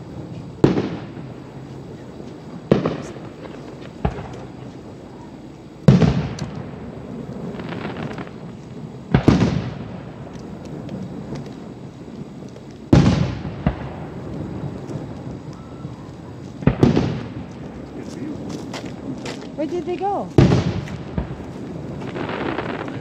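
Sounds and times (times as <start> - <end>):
fireworks booming with echo: 0.0 - 23.0.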